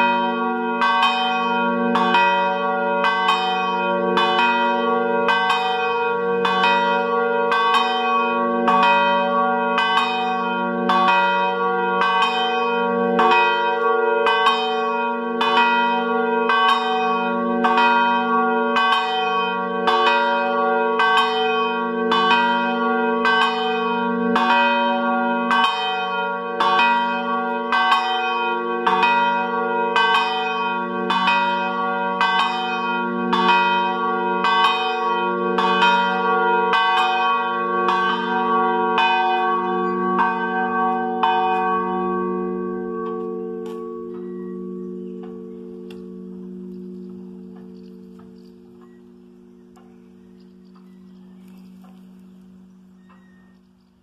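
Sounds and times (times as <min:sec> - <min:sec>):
church bells ringing: 0:00.0 - 0:53.7.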